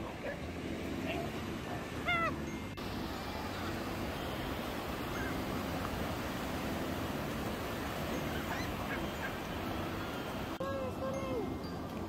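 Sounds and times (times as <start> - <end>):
ocean surf breaking: 0.0 - 11.1.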